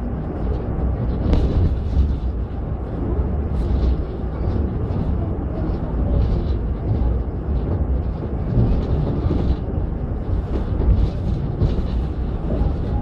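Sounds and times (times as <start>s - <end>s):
moving train rumble: 0.0s - 13.0s.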